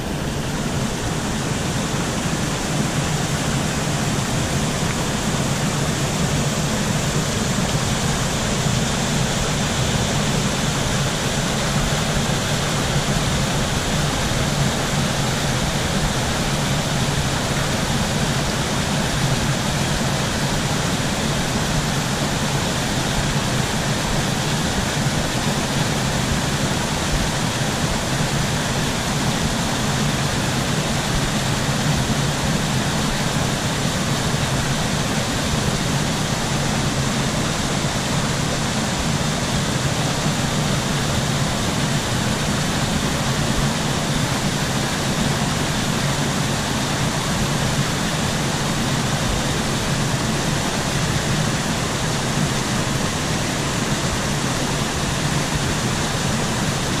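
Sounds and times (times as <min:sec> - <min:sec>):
waterfall cascading over rocks: 0:00.0 - 0:57.0.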